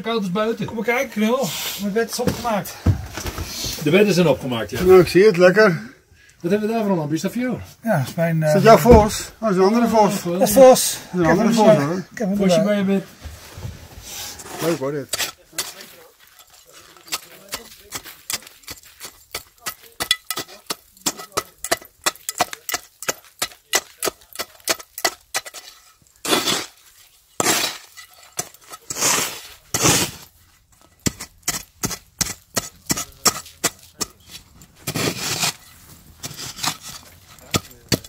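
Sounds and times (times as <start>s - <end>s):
scraping sounds: 0.8s - 5.2s, 8.0s - 38.0s.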